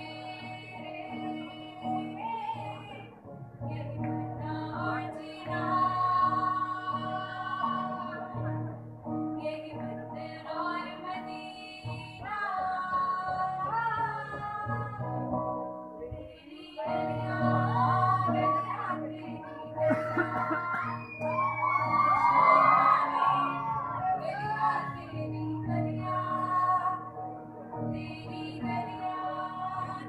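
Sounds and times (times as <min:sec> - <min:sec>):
electric guitar: 0:00.0 - 0:30.0
women singing into microphones: 0:00.0 - 0:30.0.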